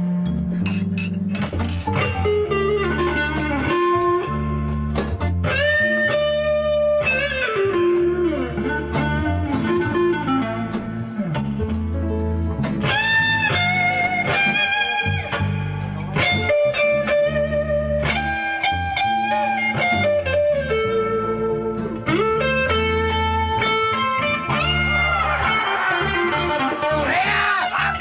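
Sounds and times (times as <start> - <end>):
bass guitar: 0.0 - 28.0
electric guitar lead with bends: 1.2 - 27.3.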